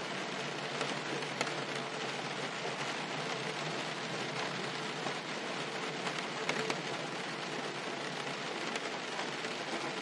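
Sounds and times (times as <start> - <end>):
rain on car roof: 0.0 - 10.0.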